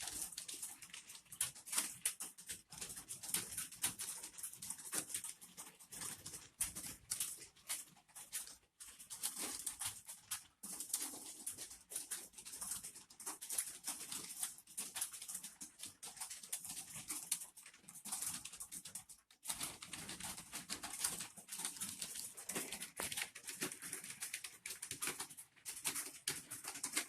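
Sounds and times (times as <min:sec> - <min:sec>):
computer keyboard typing: 0:00.0 - 0:27.0.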